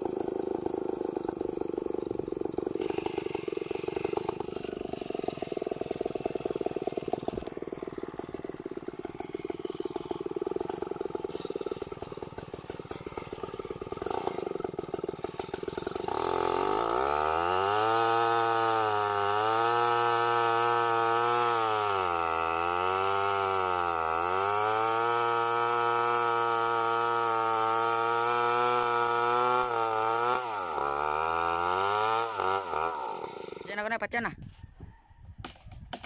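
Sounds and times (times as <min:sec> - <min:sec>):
chainsaw revving and cutting wood: 0:00.0 - 0:34.2.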